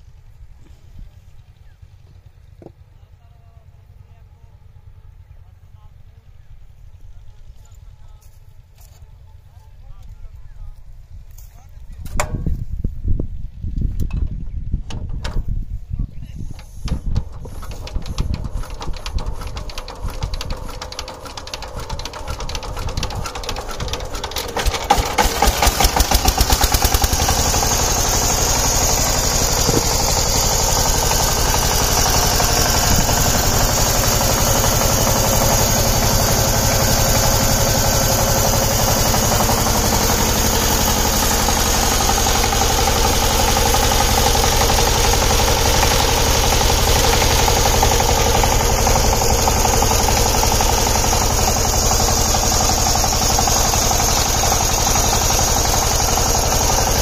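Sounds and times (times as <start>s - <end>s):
diesel engine cranking and chugging: 0.0s - 10.4s, 16.4s - 57.0s.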